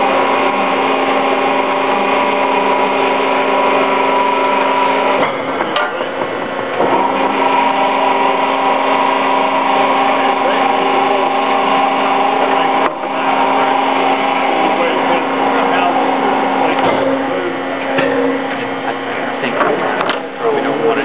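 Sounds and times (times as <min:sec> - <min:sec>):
plate-rolling machine humming: 0:00.0 - 0:21.0.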